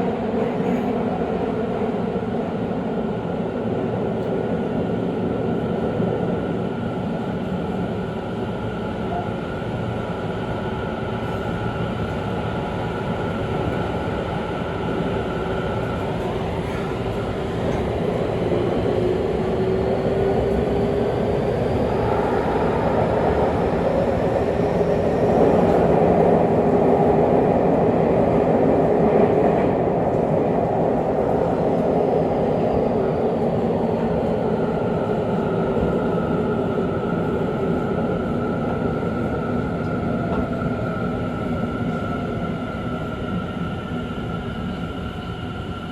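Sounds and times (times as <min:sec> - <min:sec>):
train wheel and track rumble: 0:00.0 - 0:45.9.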